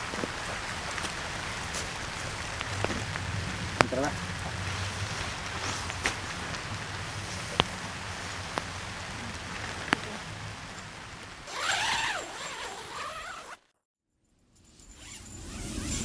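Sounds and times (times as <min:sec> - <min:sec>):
steady rain falling: 0:00.0 - 0:13.6.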